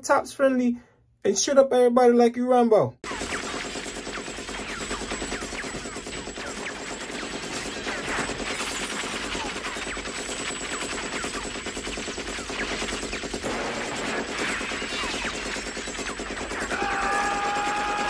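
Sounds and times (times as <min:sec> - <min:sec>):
machine gun automatic fire: 0:03.0 - 0:18.0.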